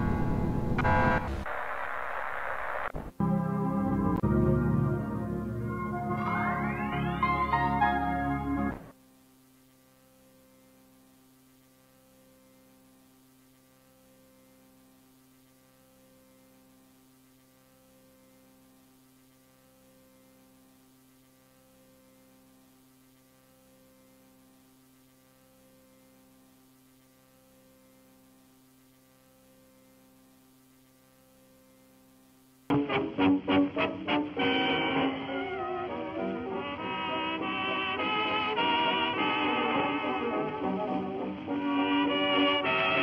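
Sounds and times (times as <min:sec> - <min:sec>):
faint pulsing electrical hum: 0:00.0 - 0:43.0.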